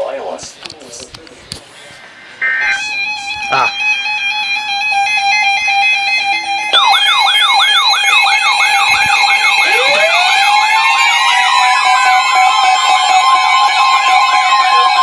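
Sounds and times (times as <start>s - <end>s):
siren fast yelp: 2.4s - 15.0s
siren steady tones: 2.4s - 15.0s
siren wail: 2.4s - 15.0s.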